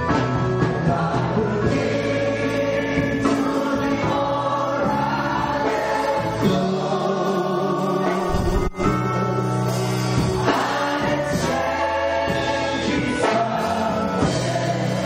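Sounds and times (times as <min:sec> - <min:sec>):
congregation singing a hymn: 0:00.0 - 0:15.0.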